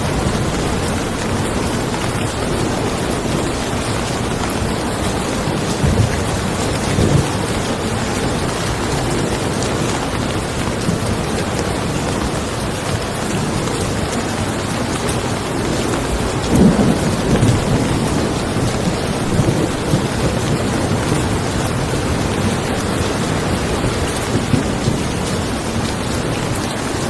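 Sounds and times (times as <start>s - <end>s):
heavy rain on a car: 0.0s - 27.0s
thunder rumbles: 0.0s - 27.0s.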